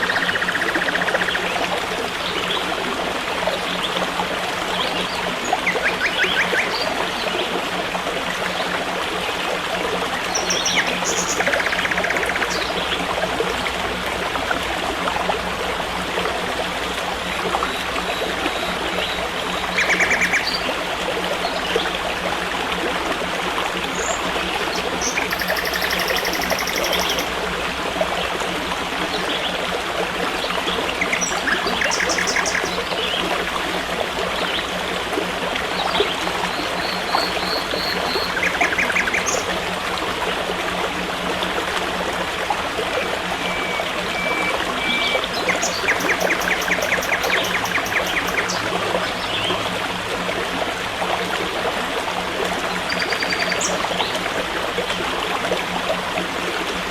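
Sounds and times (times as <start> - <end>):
forest stream flowing: 0.0 - 56.9.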